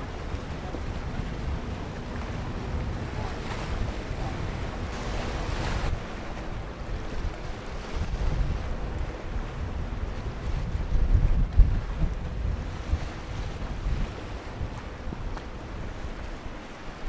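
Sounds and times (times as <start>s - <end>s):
water splashing against ship hull: 0.0s - 17.0s
wind buffeting microphone: 0.0s - 17.0s.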